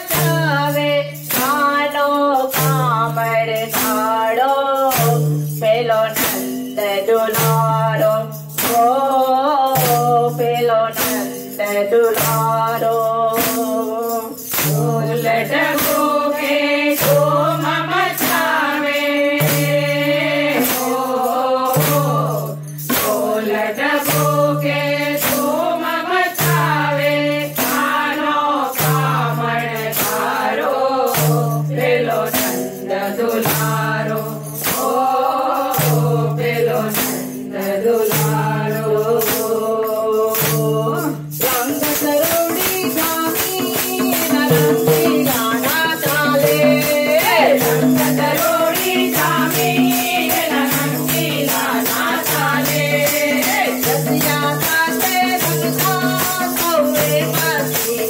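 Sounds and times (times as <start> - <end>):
women singing in unison: 0.0 - 58.0
wooden clappers with jingles: 0.0 - 58.0.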